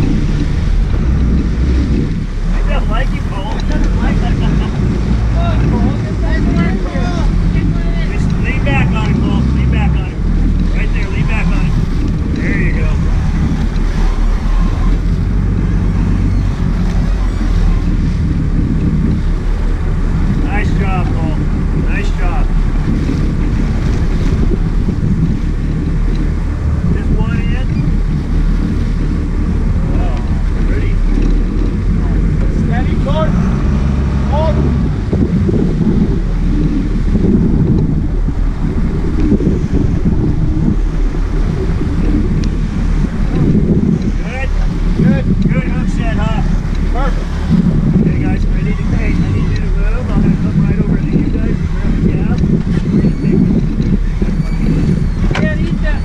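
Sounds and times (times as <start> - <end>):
boat engine low rumble: 0.0 - 56.0
water churning along hull: 0.0 - 56.0
wind on microphone: 0.0 - 56.0.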